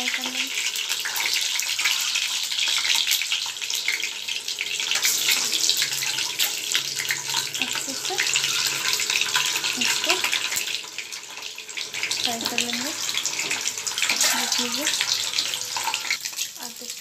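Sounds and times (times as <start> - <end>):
eggs sizzling in hot oil: 0.0 - 17.0.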